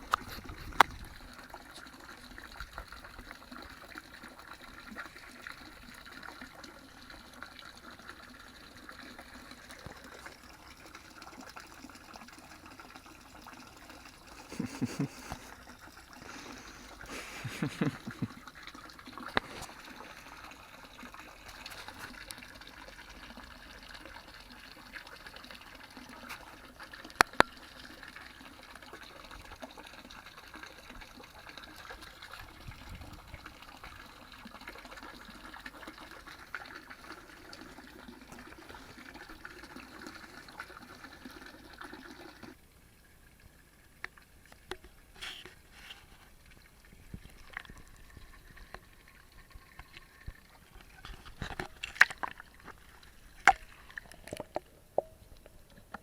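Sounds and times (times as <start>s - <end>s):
water trickling into a pond: 0.0s - 56.0s.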